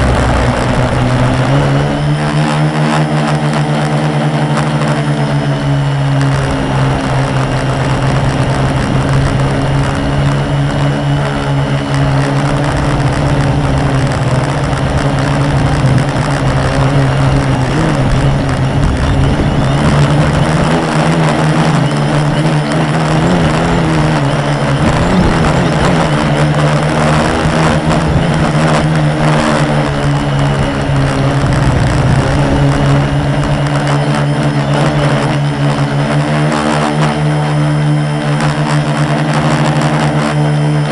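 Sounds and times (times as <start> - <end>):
quadcopter motors buzzing: 0.0 - 40.9.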